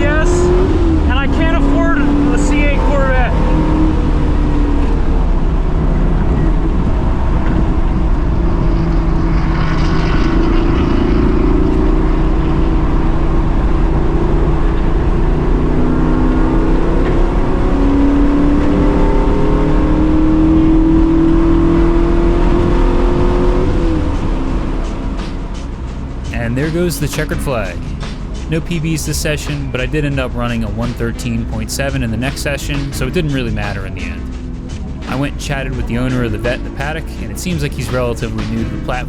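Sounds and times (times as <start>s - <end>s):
car engine pulling hard: 0.0s - 39.0s
road and wind noise: 0.0s - 39.0s.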